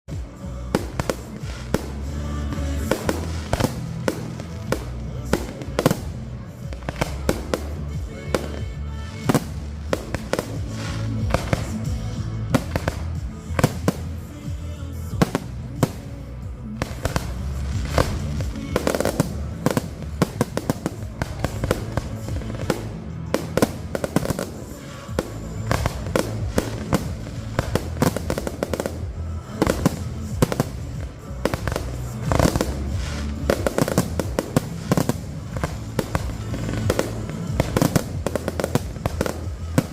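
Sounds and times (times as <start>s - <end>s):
firework bangs and crackling: 0.0s - 39.9s
music playing: 0.0s - 39.9s.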